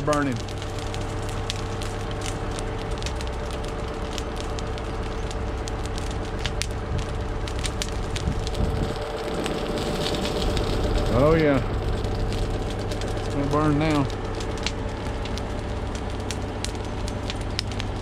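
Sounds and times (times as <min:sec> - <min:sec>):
diesel engine idling: 0:00.0 - 0:18.0
fire crackling and popping: 0:00.0 - 0:18.0.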